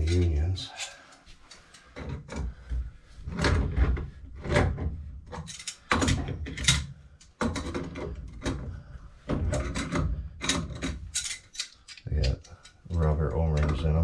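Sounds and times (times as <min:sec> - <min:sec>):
metal knocks and scrapes on pipe fittings: 0:00.0 - 0:14.0.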